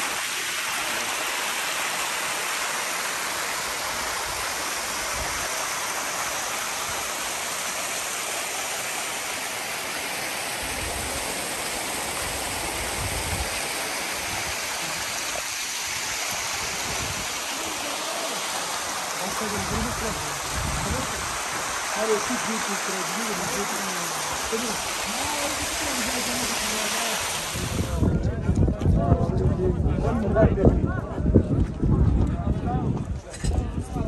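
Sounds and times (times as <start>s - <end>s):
water rushing over rock: 0.0s - 28.2s.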